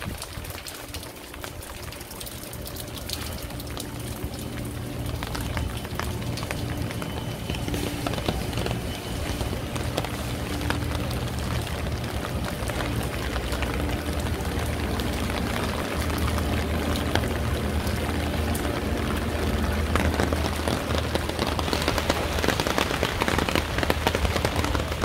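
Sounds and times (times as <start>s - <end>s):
low steady hum: 0.0s - 25.0s
raindrops ticking on surfaces: 0.0s - 25.0s
steady rain falling: 0.0s - 25.0s.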